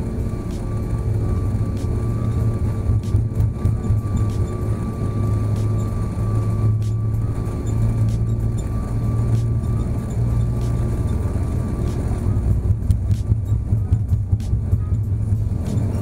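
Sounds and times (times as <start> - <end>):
jet engines low hum: 0.0 - 16.0
thin steady whine: 0.0 - 16.0.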